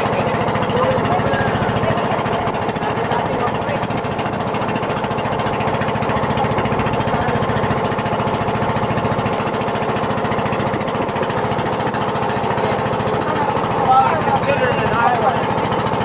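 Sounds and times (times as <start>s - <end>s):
small boat engine running: 0.0s - 16.0s.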